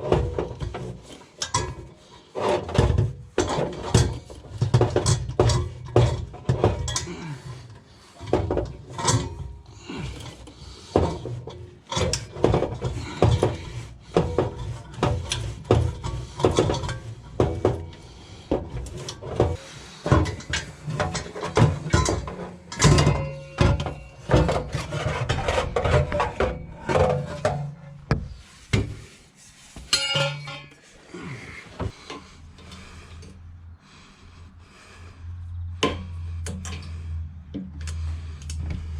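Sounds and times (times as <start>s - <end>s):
hand tools clanking on metal: 0.0s - 28.2s, 29.8s - 33.0s.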